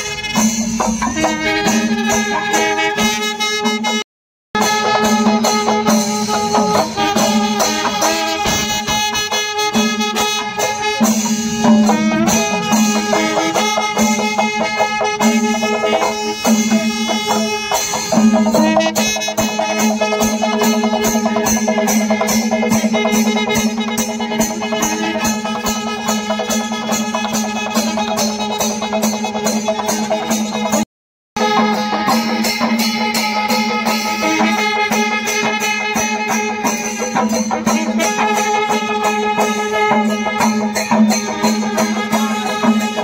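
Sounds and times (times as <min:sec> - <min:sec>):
drums and cymbals beat: 0:00.0 - 0:04.0, 0:04.6 - 0:30.8, 0:31.4 - 0:43.0
wind instruments playing melody: 0:00.0 - 0:04.0, 0:04.6 - 0:30.7, 0:31.4 - 0:43.0.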